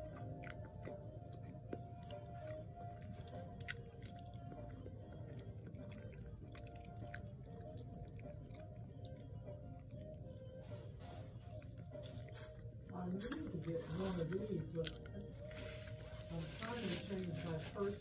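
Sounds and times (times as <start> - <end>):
person chewing wetly: 0.0 - 10.3, 11.4 - 15.6.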